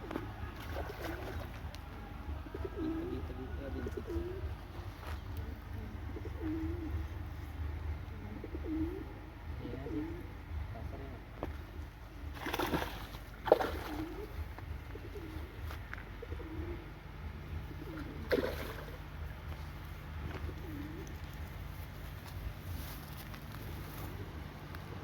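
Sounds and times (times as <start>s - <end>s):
dove cooing: 0.0s - 10.7s, 12.2s - 25.0s
steady low rumble: 0.0s - 25.0s.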